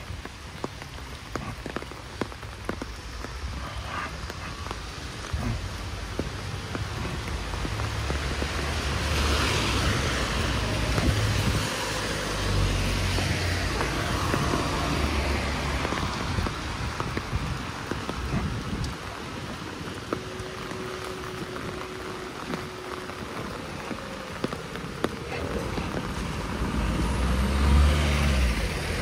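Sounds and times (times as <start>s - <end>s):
steady rain pattering: 0.0s - 29.0s
tyres hissing on wet asphalt: 0.0s - 29.0s.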